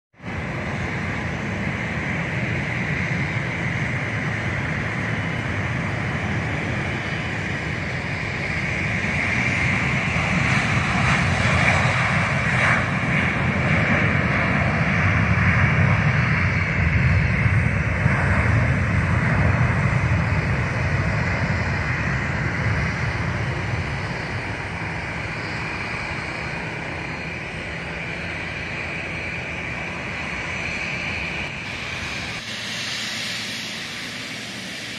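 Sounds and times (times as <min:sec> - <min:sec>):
jet engines at takeoff: 0:00.1 - 0:34.9.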